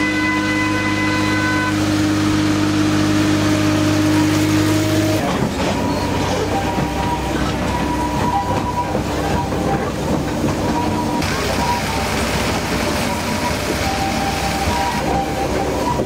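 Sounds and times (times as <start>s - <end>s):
train engine drone: 0.0s - 16.0s
wheels running on track: 0.0s - 16.0s.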